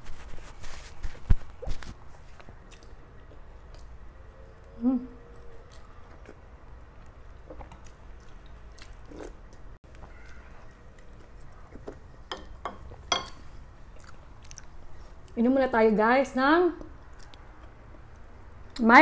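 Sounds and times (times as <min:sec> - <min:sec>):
close chewing with wet mouth sounds: 0:01.5 - 0:15.4, 0:16.8 - 0:18.8.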